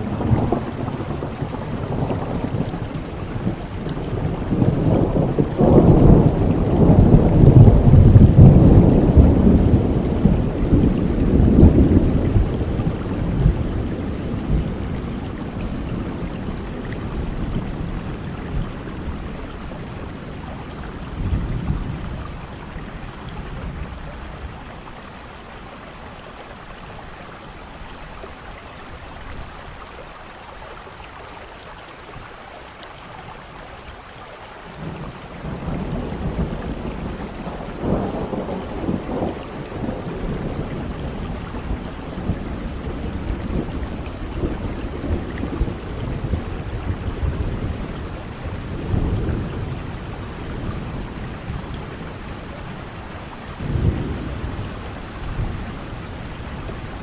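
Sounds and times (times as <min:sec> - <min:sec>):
rolling thunder: 0:00.0 - 0:25.2, 0:34.7 - 0:57.0
steady rain: 0:00.0 - 0:57.0.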